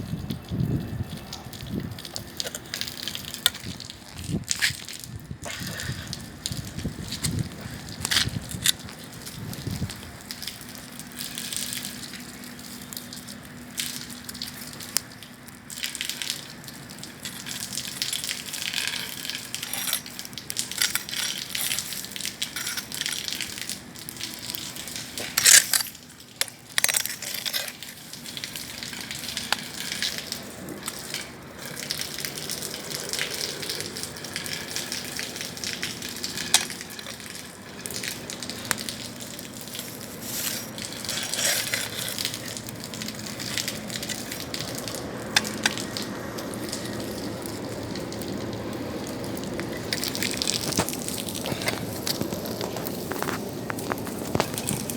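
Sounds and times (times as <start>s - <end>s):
bonfire crackling and popping: 0.0s - 54.9s.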